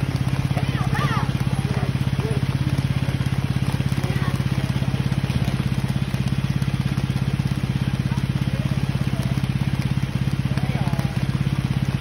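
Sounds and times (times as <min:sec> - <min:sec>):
riding lawn mower engine idling: 0:00.0 - 0:12.0.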